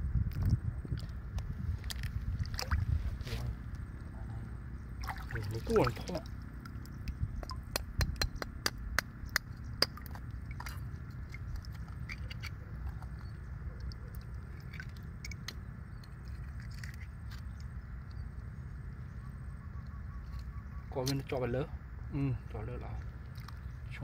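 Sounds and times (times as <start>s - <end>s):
low rumble: 0.0s - 20.8s.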